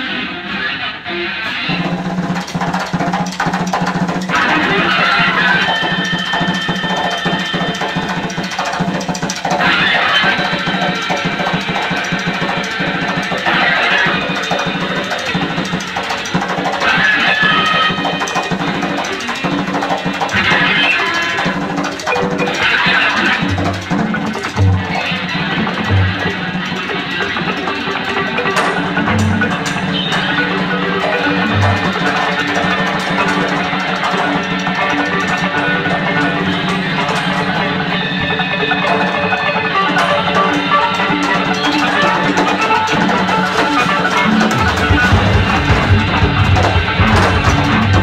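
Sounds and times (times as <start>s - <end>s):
harsh high guitar noise: 0.0s - 48.0s
noise rock band: 0.0s - 48.0s.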